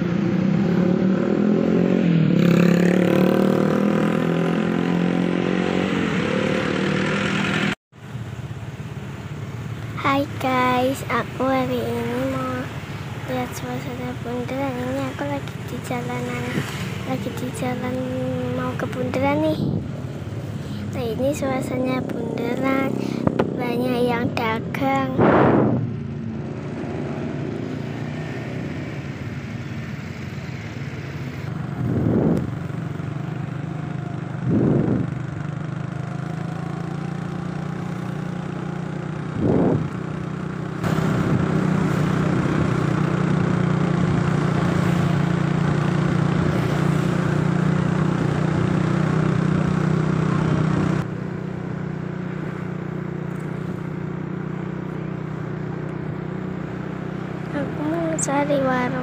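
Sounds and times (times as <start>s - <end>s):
passing traffic: 0.0s - 59.0s
vehicle engine running: 6.8s - 59.0s.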